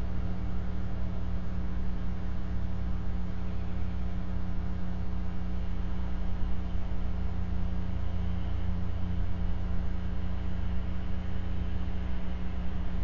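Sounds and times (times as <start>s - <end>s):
low hum with held tones: 0.0s - 13.0s.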